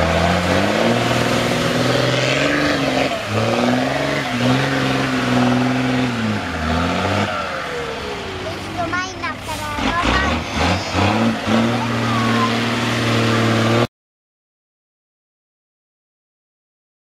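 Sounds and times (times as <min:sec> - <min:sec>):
truck churning through muddy water: 0:00.0 - 0:13.9
truck engine revving: 0:00.0 - 0:13.9.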